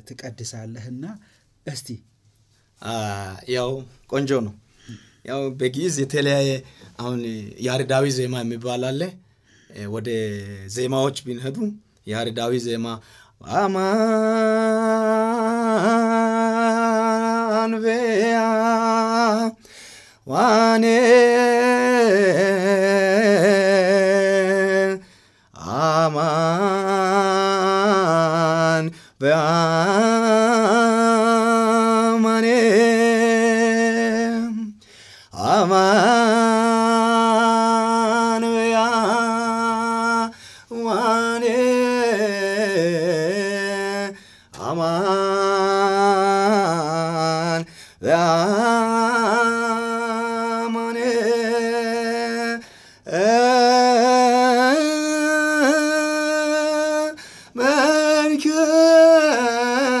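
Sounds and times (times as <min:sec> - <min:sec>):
man chanting unaccompanied: 0:02.8 - 0:04.6, 0:05.2 - 0:19.6, 0:20.2 - 0:34.8, 0:35.4 - 1:00.0.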